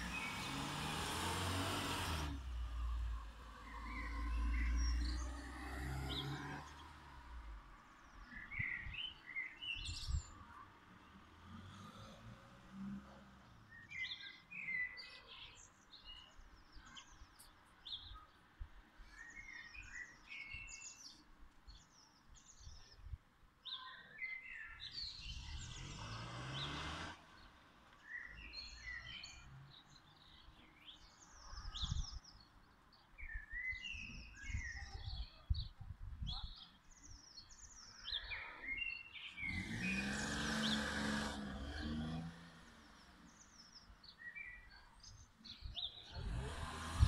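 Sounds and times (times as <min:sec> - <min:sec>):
songbirds singing and chirping: 0:00.0 - 0:47.0.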